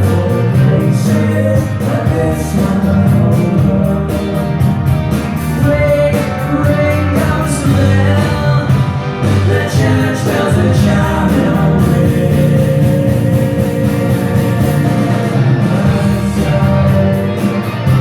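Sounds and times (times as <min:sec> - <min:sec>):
person singing: 0:00.0 - 0:18.0
rock band playing live: 0:00.0 - 0:18.0.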